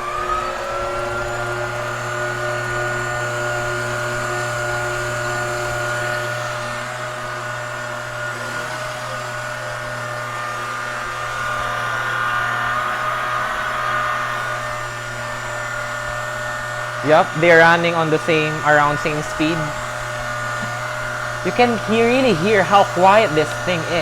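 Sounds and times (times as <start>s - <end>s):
electric stand mixers whining: 0.0s - 24.0s.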